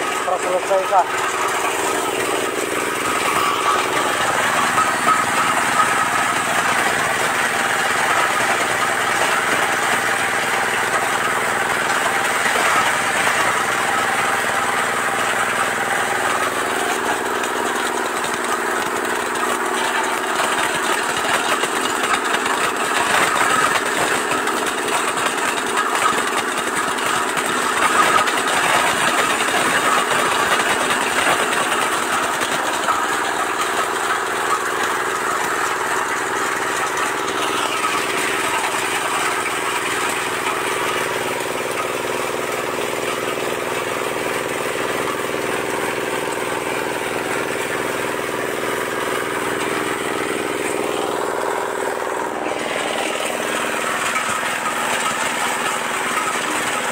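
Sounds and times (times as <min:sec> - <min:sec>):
machine motor hum: 0:00.0 - 0:56.9.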